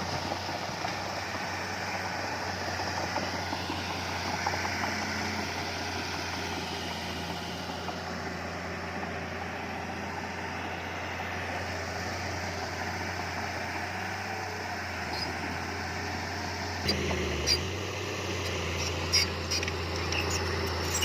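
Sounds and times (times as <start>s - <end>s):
heavy machine diesel engine running: 0.0s - 21.0s.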